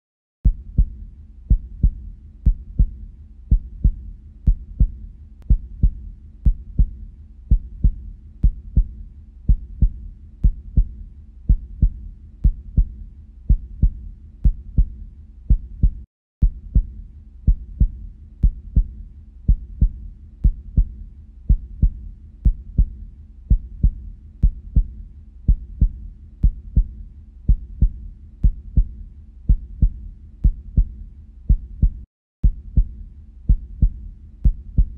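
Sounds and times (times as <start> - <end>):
heartbeat thumps: 0.4 - 34.9.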